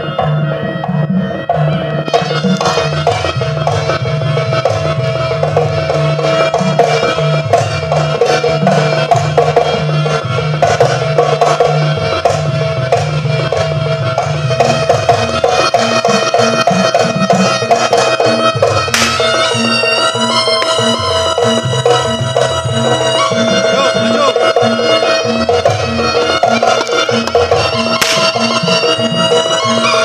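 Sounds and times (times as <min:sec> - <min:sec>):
hand drums beating: 0:00.0 - 0:30.0.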